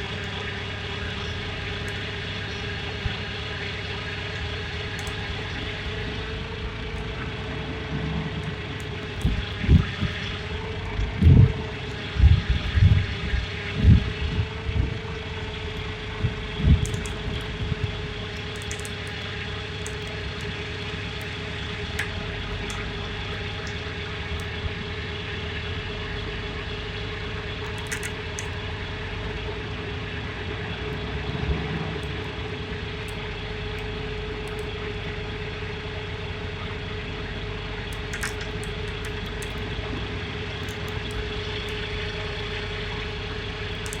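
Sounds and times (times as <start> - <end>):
truck engine humming: 0.0 - 44.0.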